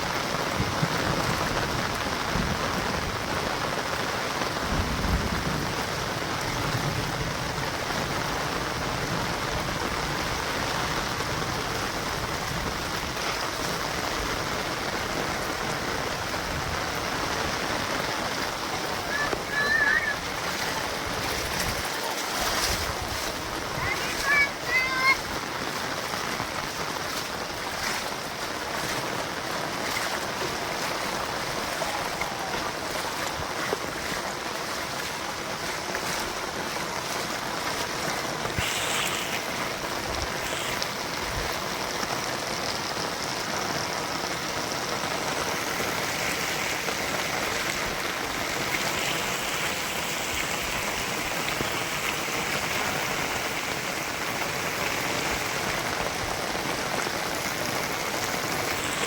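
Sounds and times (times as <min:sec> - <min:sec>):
heavy rain: 0:00.0 - 0:59.0
running rainwater: 0:00.0 - 0:59.0.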